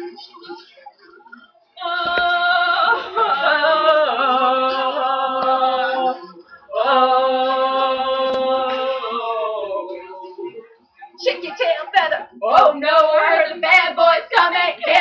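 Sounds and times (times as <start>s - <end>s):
women singing unaccompanied: 1.8s - 10.6s, 11.2s - 15.0s.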